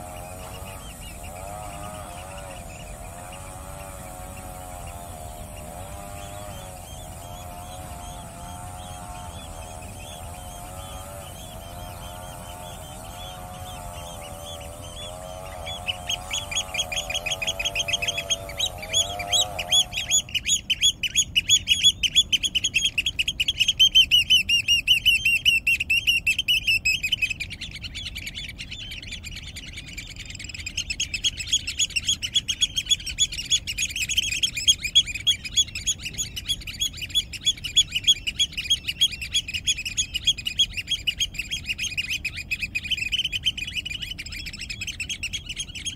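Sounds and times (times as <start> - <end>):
birds chirping in trills: 0.0 - 45.9
low wavering bird call: 0.0 - 45.9.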